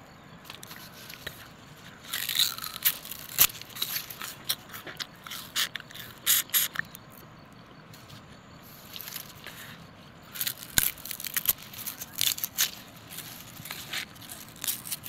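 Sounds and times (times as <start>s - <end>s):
food crackling and crunching: 0.5s - 7.3s, 8.8s - 15.0s.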